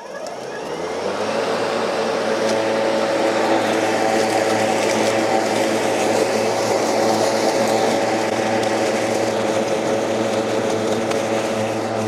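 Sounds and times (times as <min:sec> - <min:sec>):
electric lawn mower humming: 0:00.0 - 0:12.0.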